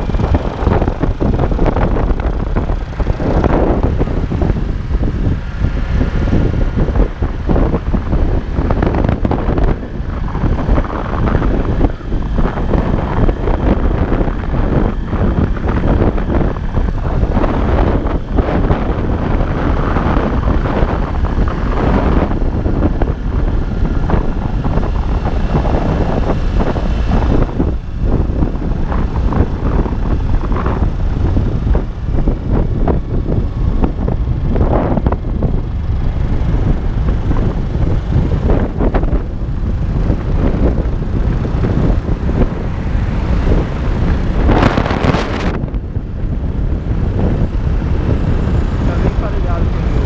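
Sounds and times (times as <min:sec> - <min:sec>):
motorcycle engine running: 0:00.0 - 0:50.0
wind buffeting microphone: 0:00.0 - 0:50.0.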